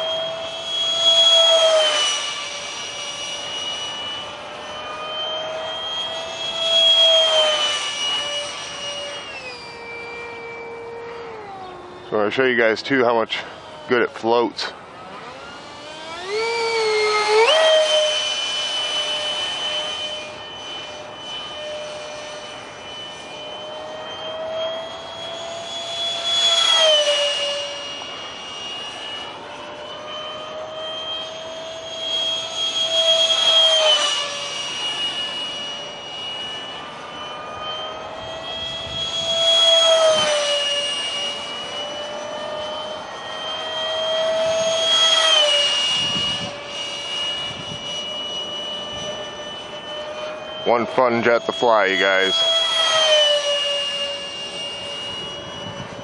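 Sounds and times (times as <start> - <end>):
electric ducted fan whine: 0.0 - 56.0.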